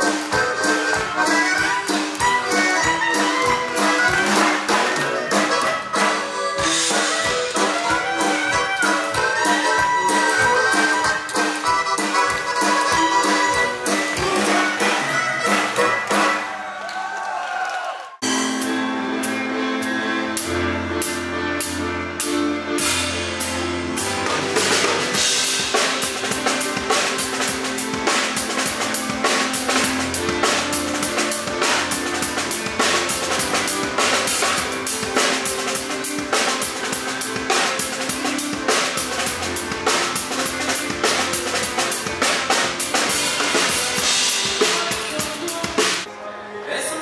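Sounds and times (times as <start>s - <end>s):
bass notes: 0.0s - 16.5s, 18.2s - 46.1s
drum kit beat: 0.0s - 16.6s, 18.2s - 46.1s
keyboard notes: 0.0s - 16.6s, 18.2s - 47.0s
live band playing: 0.0s - 16.9s, 18.2s - 47.0s.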